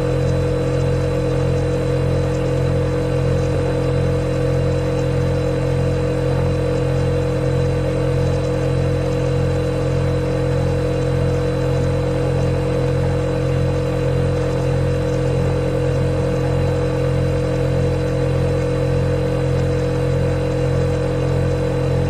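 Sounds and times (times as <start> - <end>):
refrigerator compressor humming: 0.0 - 22.0.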